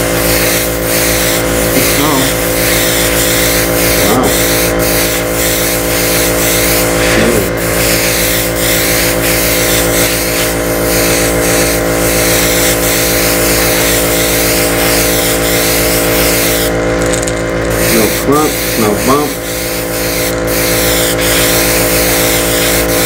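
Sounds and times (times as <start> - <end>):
airbrush spraying hiss: 0.0 - 16.7, 17.7 - 23.0
compressor motor hum: 0.0 - 23.0.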